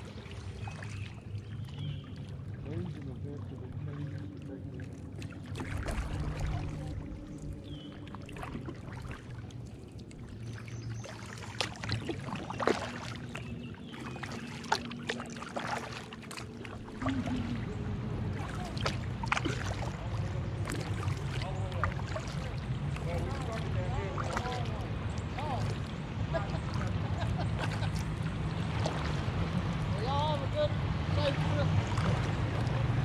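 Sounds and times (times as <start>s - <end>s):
paddle strokes in water: 0.0s - 33.0s.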